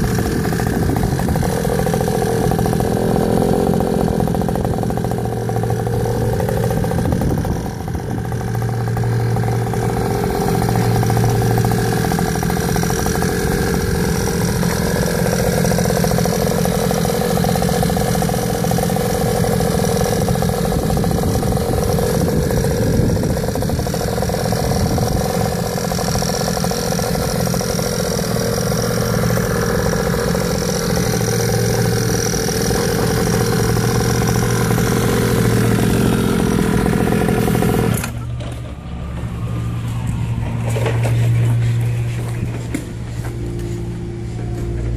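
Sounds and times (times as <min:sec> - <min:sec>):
small two-stroke engine running: 0:00.0 - 0:44.9.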